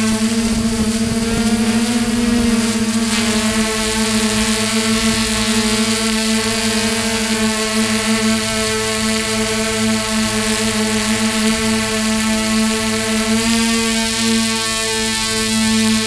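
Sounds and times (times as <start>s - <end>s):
drone motors whining hum: 0.0s - 16.0s
strong hiss: 0.0s - 16.0s.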